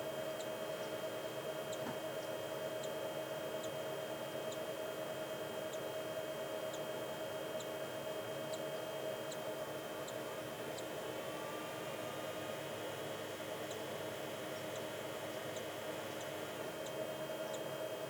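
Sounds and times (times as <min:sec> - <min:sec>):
steady electric hum: 0:00.0 - 0:18.0.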